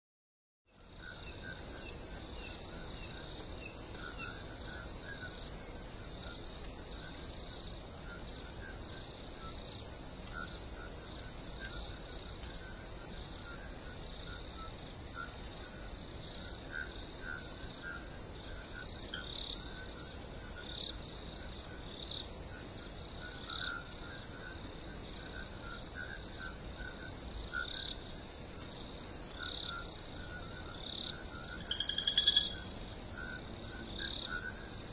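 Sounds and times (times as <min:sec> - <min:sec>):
crickets trilling: 0:00.7 - 0:34.9
frogs calling: 0:00.8 - 0:34.9.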